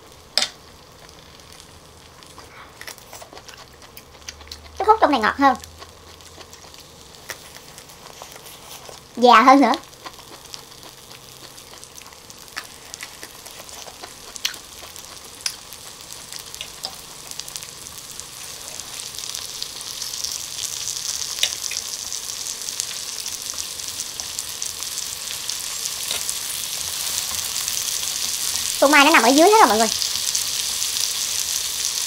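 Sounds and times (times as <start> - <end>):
food sizzling on grill pan: 0.0 - 32.0.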